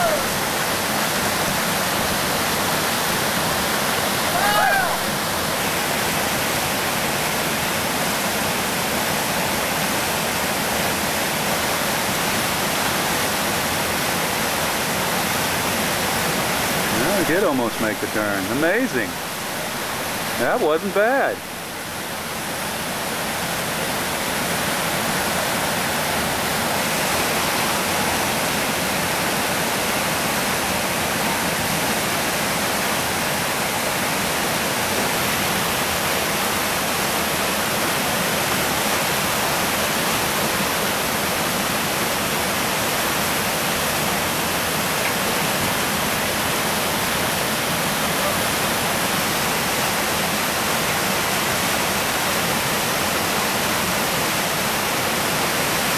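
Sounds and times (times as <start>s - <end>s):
whitewater rapids rushing: 0.0s - 55.9s.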